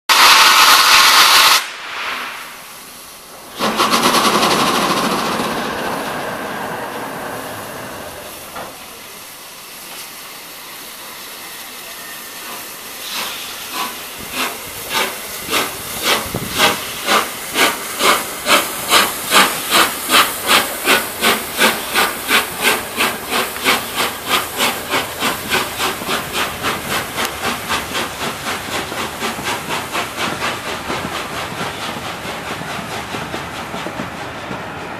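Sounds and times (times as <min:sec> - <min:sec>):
loud steam hissing: 0:00.1 - 0:34.9
steam locomotive exhaust beats: 0:00.1 - 0:34.9.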